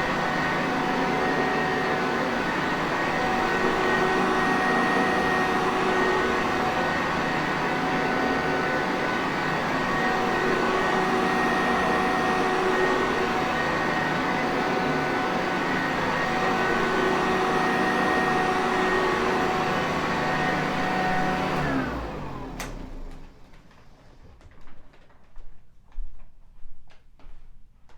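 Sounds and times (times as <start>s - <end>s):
vacuum cleaner motor whining: 0.0s - 24.4s.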